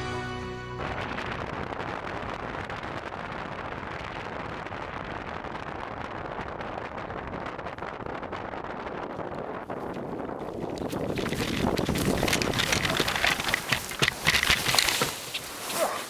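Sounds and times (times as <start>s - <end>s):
wind rushing over microphone: 0.8s - 16.0s.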